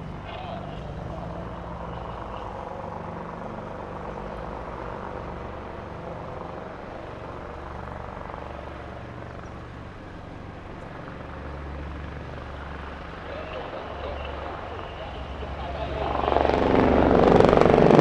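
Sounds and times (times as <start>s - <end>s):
helicopters flying by: 0.0s - 18.0s.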